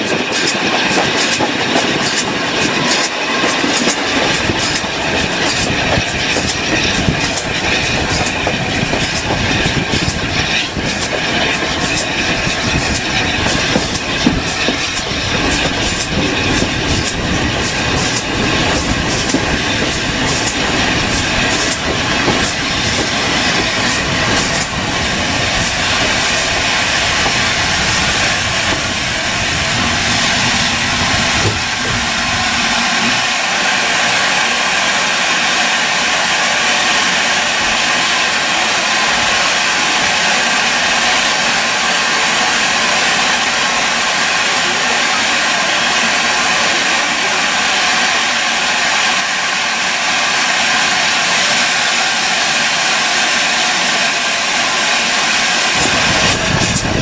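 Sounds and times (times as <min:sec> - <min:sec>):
loud hiss of steam: 0:00.0 - 0:57.0
steam train rumble: 0:00.0 - 0:57.0.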